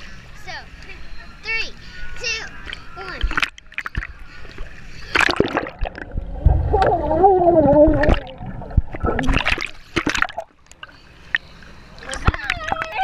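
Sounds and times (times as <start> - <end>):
muffled underwater rumble: 2.5 - 13.0
water splashing: 2.5 - 13.0.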